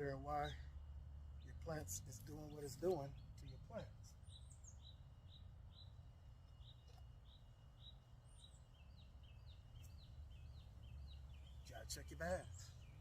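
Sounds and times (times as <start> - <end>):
low steady background rumble: 0.0 - 13.0
bird calling with falling chirp: 1.4 - 13.0.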